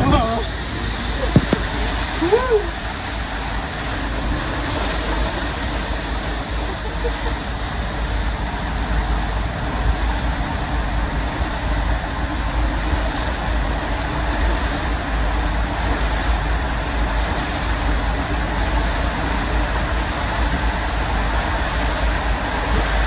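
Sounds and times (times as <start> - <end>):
water rushing with deep rumble: 0.0 - 23.0.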